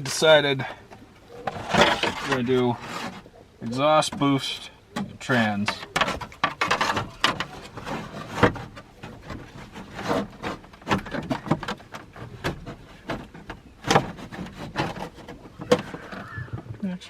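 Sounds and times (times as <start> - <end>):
sharp clicks and knocks: 0.0 - 16.7.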